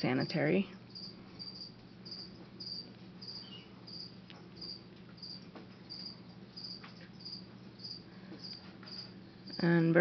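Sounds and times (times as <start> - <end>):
low steady hum: 0.0 - 10.0
insect chirping: 0.8 - 9.7.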